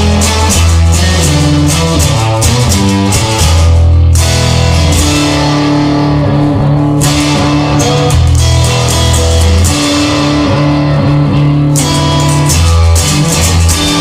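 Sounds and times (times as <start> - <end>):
bass guitar: 0.0 - 14.0
electric guitar: 0.0 - 14.0.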